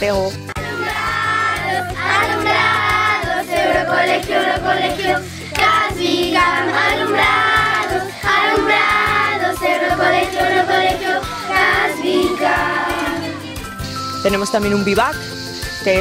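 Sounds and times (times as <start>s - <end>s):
girls singing together: 0.5s - 13.8s.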